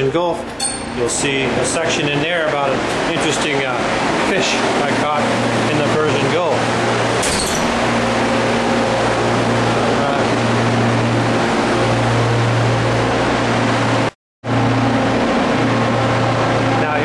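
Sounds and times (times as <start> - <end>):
ship machinery hum: 0.0 - 17.0.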